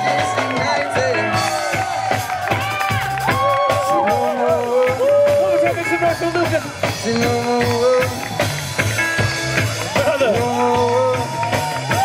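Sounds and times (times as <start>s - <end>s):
bass guitar: 0.0s - 12.0s
drum kit groove: 0.0s - 12.0s.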